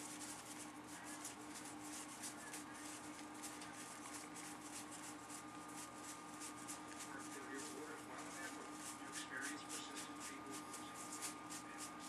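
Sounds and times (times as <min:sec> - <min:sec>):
cards rustling: 0:00.0 - 0:12.0
low electrical hum: 0:00.0 - 0:12.0.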